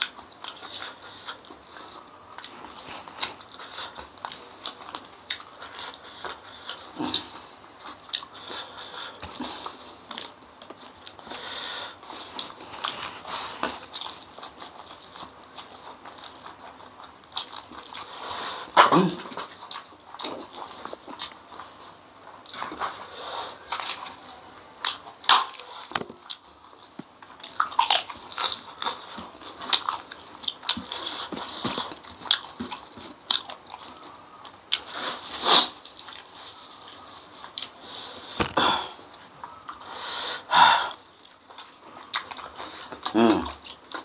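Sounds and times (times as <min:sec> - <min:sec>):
wet chewing: 0:00.0 - 0:40.1, 0:40.9 - 0:44.0
biting and crunching food: 0:00.0 - 0:44.0.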